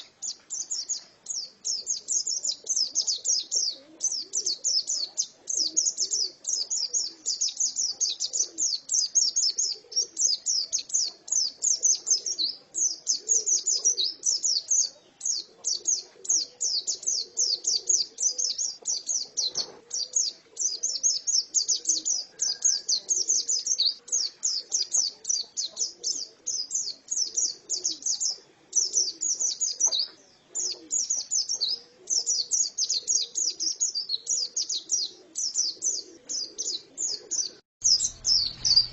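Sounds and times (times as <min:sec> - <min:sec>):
bird warbling high chirps: 0:00.0 - 0:38.9.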